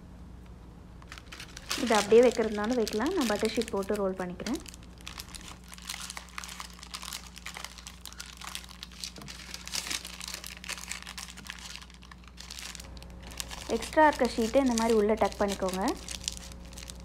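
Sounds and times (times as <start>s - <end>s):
paper crinkling and rustling: 1.0s - 17.0s.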